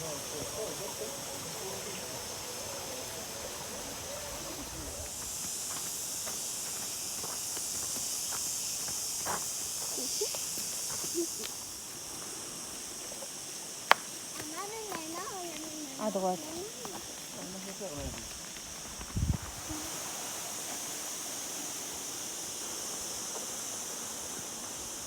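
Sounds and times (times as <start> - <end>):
high-pitched hiss: 0.0 - 25.0.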